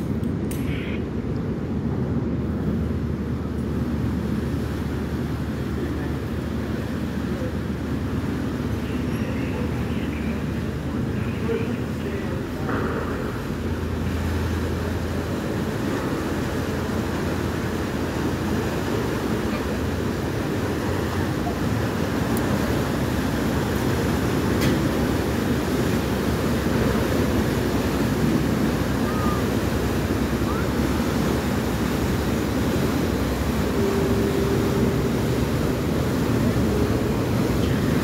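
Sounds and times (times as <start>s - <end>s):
churning propeller wash: 0.0s - 38.0s
ferry engine low rumble: 0.0s - 38.0s.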